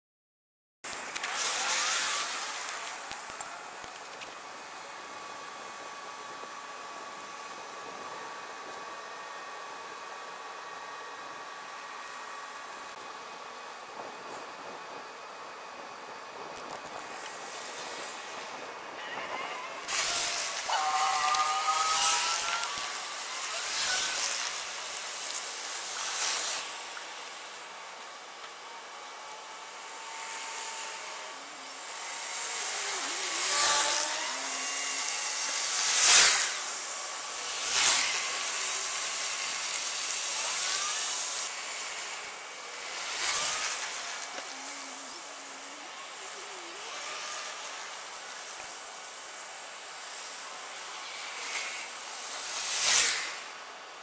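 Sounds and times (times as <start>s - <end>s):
steady traffic hiss: 0.9s - 54.0s.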